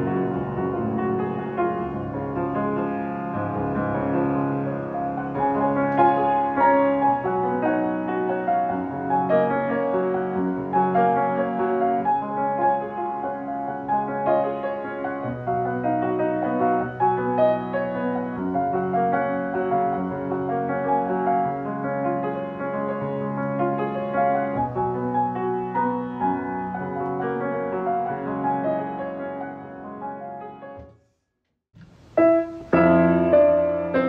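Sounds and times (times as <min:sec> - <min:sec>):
piano music: 0:00.0 - 0:30.9, 0:31.8 - 0:34.0.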